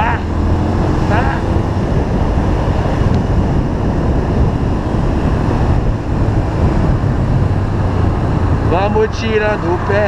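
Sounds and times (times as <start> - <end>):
motorcycle engine running: 0.0 - 9.0
wind buffeting microphone: 0.0 - 10.0.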